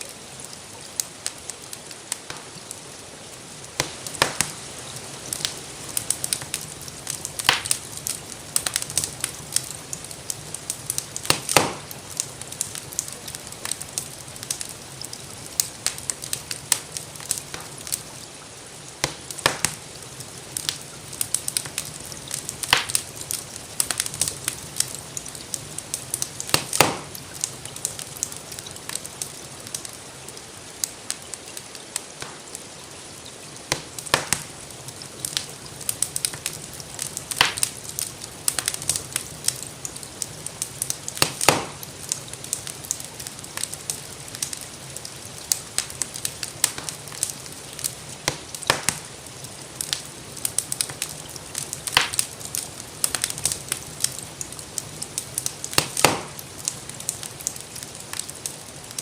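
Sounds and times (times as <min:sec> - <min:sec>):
rain hissing: 0:00.0 - 0:59.0
wood fire crackling: 0:00.0 - 0:59.0.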